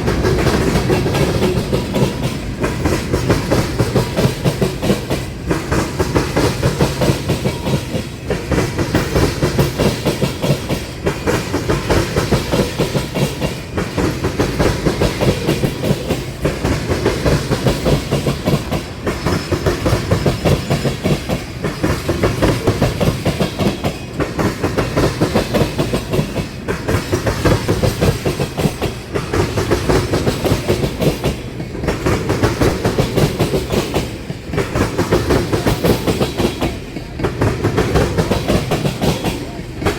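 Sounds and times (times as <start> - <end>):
train wheels clattering over crossing: 0.0 - 39.9.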